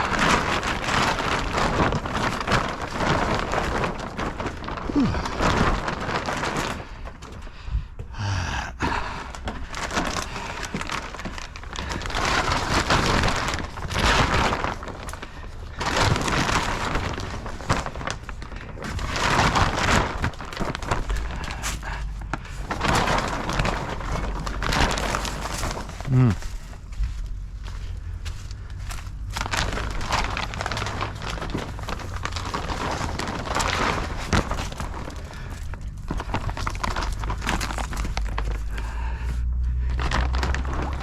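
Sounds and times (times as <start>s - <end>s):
plastic tarp rustling and crinkling: 0.0s - 41.0s.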